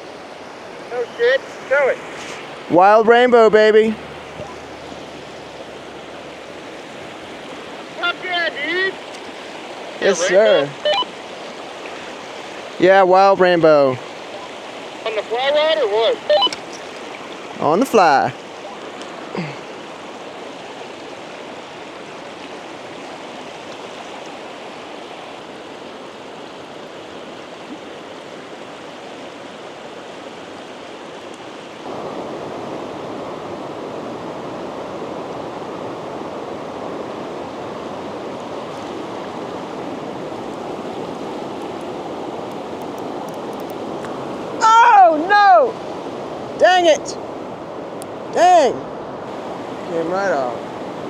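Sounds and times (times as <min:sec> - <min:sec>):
river rapids rushing: 0:00.0 - 0:51.0.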